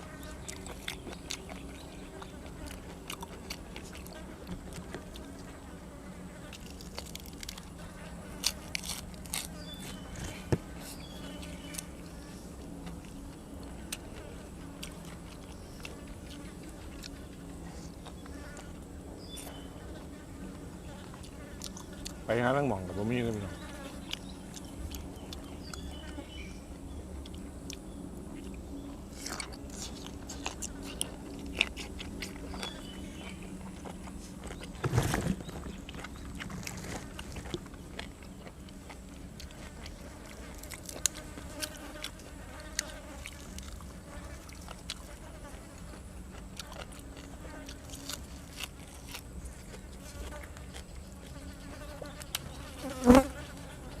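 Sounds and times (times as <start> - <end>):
chewing and crunching: 0.0 - 54.0
low buzzing hum: 0.0 - 54.0.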